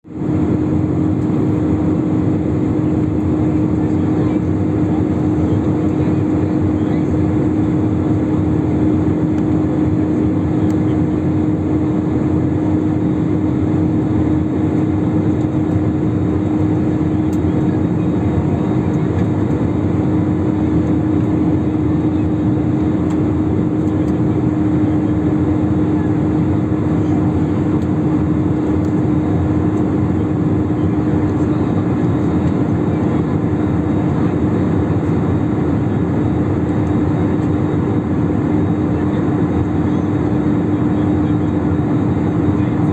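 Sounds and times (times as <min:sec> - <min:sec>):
airliner cabin engine rush: 0:00.1 - 0:42.9
constant low hum: 0:00.1 - 0:42.9.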